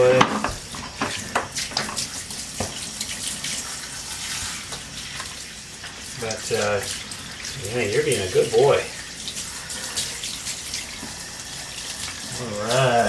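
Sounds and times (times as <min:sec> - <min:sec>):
water splashing in bathtub: 0:00.0 - 0:13.0.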